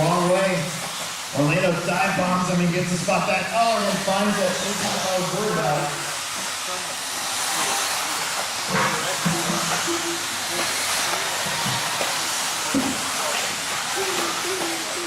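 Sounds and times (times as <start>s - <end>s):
rc cars racing: 0.0s - 15.0s.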